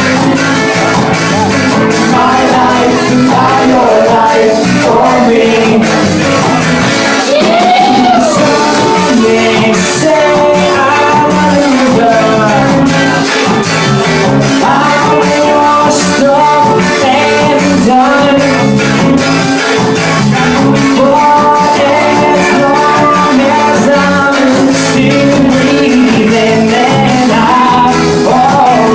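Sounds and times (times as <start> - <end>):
live ska band playing: 0.0 - 28.9.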